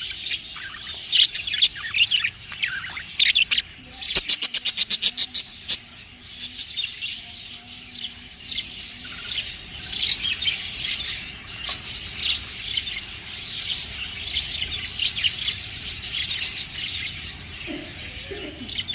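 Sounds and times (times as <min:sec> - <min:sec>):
budgerigars chirping: 0:00.0 - 0:18.9.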